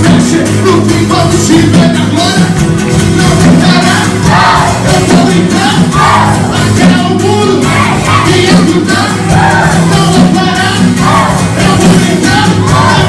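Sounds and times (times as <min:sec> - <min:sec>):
band playing with steady beat: 0:00.0 - 0:13.0
people singing and calling out: 0:00.0 - 0:13.0.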